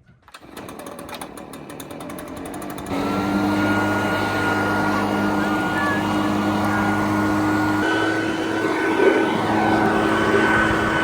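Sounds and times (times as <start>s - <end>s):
tractor engine running: 0.3s - 11.0s.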